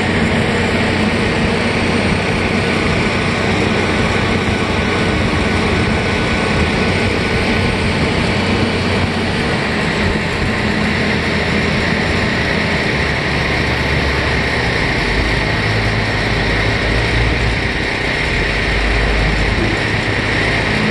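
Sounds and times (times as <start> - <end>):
ferry engine rumble: 0.0 - 20.9
water noise: 0.0 - 20.9.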